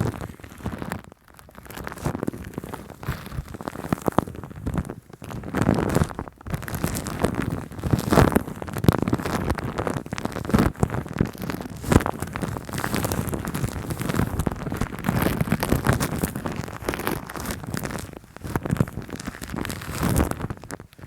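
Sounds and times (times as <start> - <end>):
foam squished on a microphone: 0.0 - 21.0.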